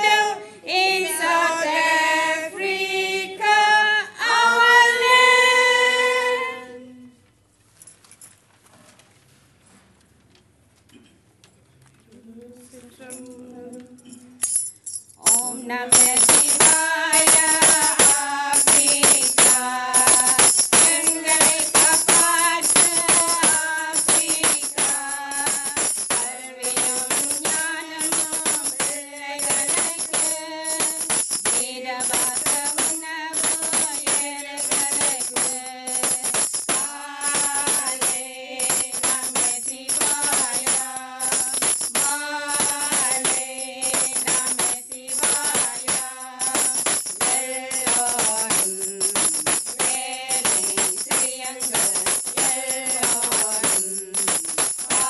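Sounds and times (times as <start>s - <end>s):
jingling hand percussion: 0.0s - 2.4s, 13.1s - 55.0s
women singing in unison: 0.0s - 7.2s, 12.2s - 14.4s, 15.2s - 55.0s.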